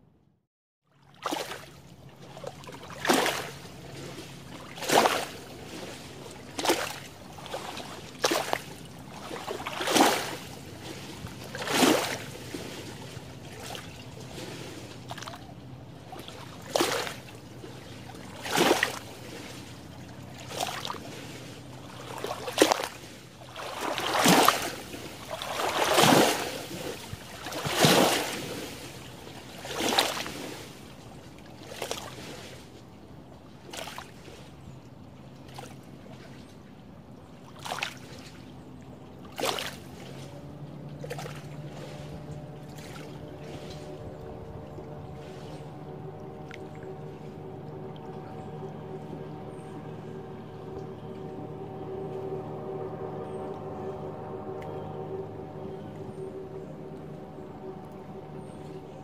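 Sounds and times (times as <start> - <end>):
waves lapping on shore: 0.8 - 59.0.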